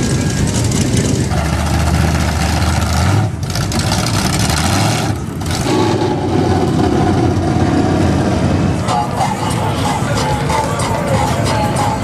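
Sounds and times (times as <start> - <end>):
truck engines running: 0.0 - 12.0.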